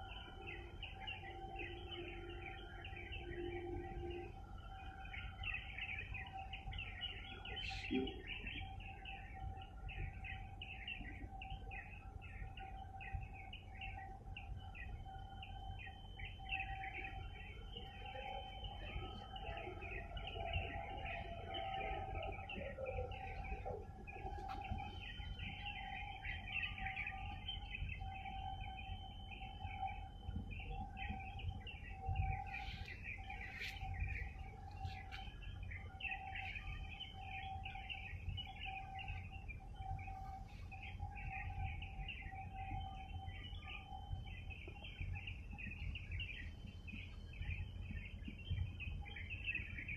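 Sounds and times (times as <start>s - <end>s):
steady hum: 0.0s - 49.2s
small birds chirping: 0.0s - 49.9s.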